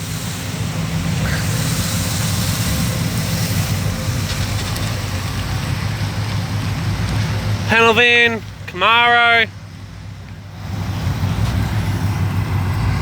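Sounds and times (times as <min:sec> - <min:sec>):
outdoor background noise: 0:00.0 - 0:13.0
vehicle engine idling: 0:00.0 - 0:13.0.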